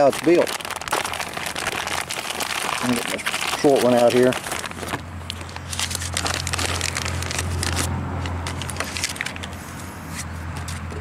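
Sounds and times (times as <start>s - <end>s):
packaging crackling and rustling: 0.0s - 9.6s.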